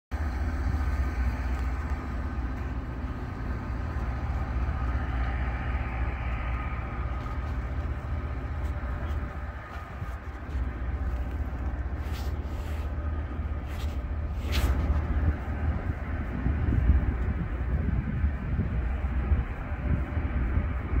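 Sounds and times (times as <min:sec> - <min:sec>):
rail grinder train rumbling: 0:00.1 - 0:21.0.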